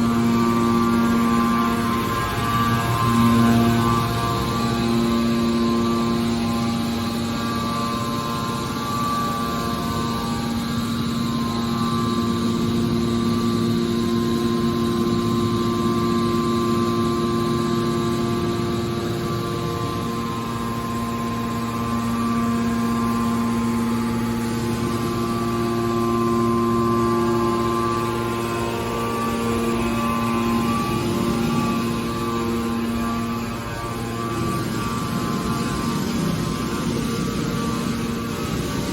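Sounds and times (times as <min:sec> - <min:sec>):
hydraulic power unit hum: 0:00.0 - 0:38.9.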